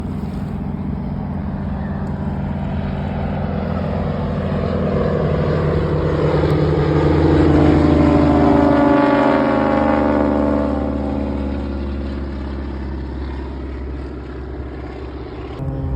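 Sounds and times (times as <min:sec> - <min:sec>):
propeller aircraft flying past: 0:00.0 - 0:15.9.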